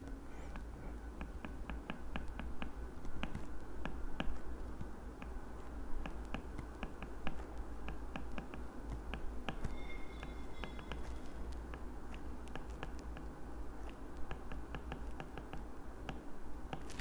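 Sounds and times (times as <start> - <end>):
low steady hum: 0.0 - 17.0
stylus clicking on tablet screen: 1.2 - 17.0.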